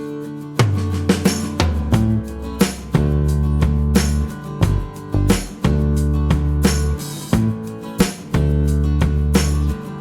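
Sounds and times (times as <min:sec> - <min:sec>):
guitar bass and drums music: 0:00.0 - 0:10.0.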